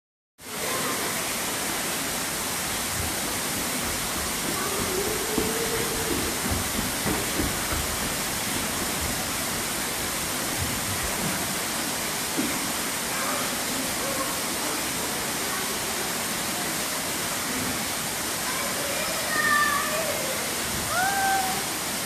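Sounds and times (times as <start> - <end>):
rushing water: 0.4 - 22.0.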